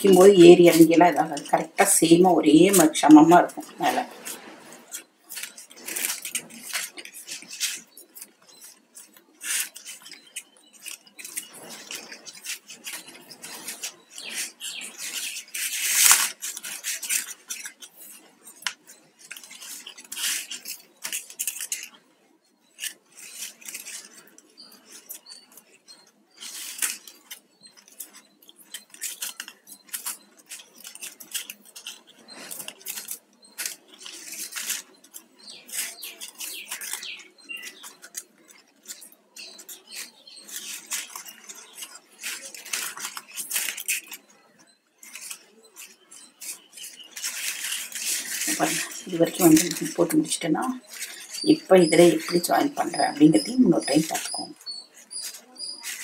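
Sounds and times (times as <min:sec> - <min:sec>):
plastic strips rubbing and clicking: 0:00.0 - 0:56.0.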